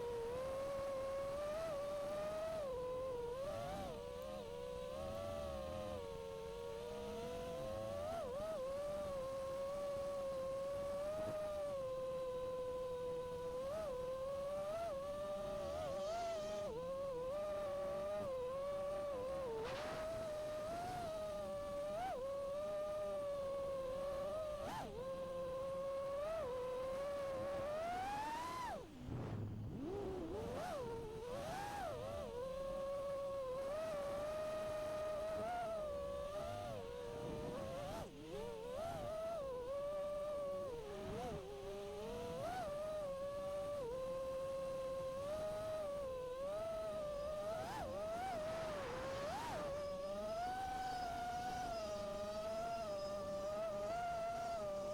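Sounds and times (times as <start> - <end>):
drone motors whining: 0.0 - 54.9.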